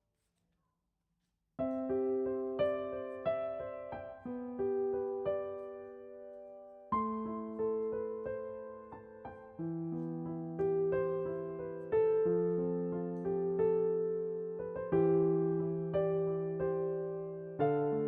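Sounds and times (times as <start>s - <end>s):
soft piano chords: 1.6s - 18.0s.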